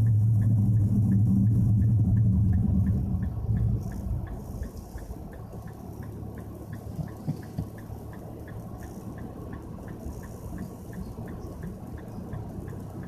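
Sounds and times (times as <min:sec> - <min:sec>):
engine humming in cabin: 0:00.0 - 0:13.0
light ticking: 0:00.0 - 0:13.0.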